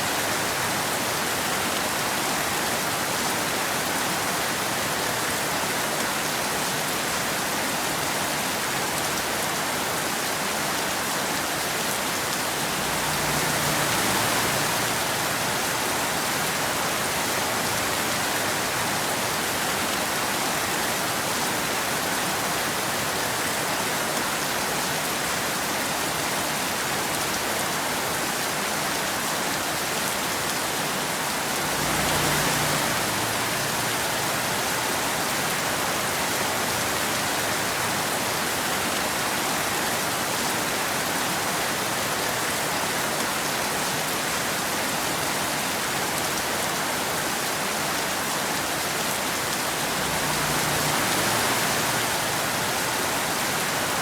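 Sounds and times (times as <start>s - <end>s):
rain falling on road and trees: 0.0s - 54.0s.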